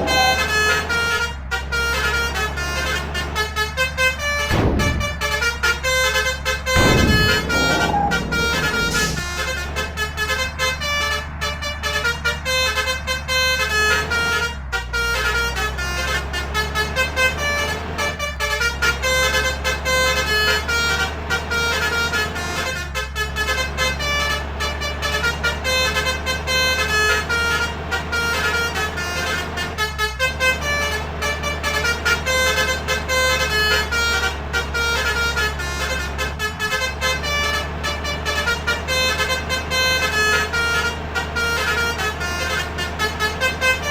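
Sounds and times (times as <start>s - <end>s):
bus horn playing rapid tune: 0.0s - 43.9s
engine and road noise drone: 0.0s - 43.9s.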